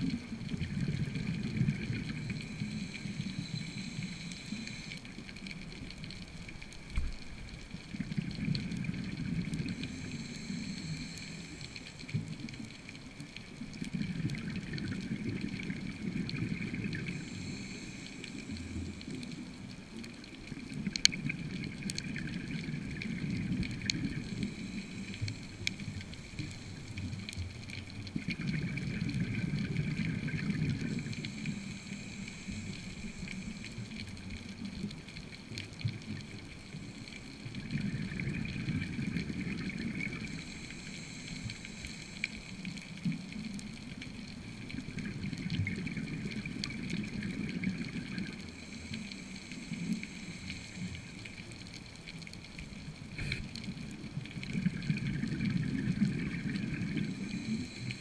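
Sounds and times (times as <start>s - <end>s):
underwater breathing bubbles: 0.0s - 58.0s.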